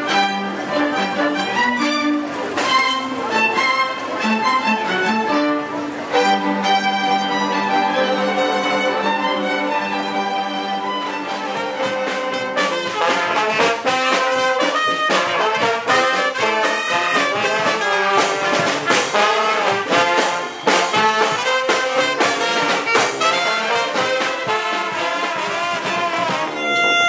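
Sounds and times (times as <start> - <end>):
brass horns playing punchy notes: 0.0 - 27.0.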